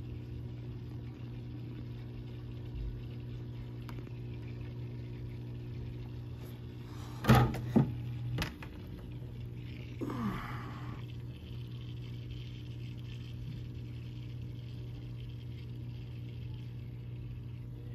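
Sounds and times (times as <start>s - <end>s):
aquarium pump humming: 0.0s - 17.9s.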